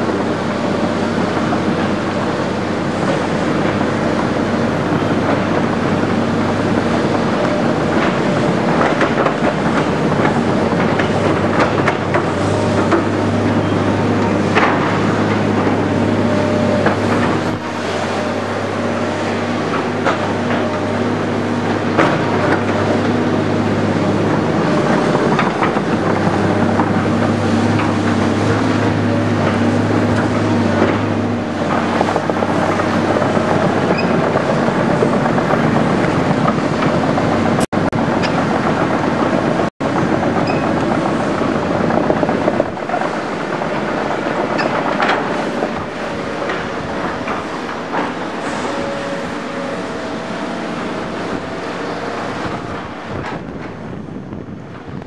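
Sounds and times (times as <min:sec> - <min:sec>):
excavator diesel engines running: 0:00.0 - 0:55.0.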